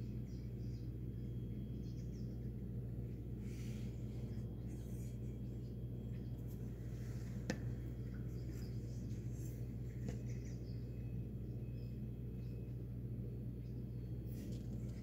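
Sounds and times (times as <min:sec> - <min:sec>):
faint bird chirps: 0:00.0 - 0:15.0
steady low hum: 0:00.0 - 0:15.0.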